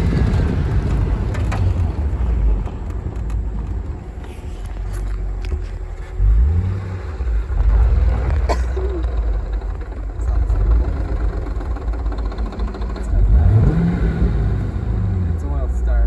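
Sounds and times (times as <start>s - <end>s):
car engine rumbling and revving: 0.0s - 16.0s.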